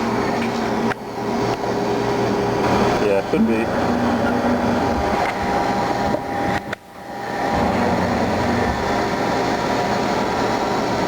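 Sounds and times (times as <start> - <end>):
lathe running: 0.0 - 11.0.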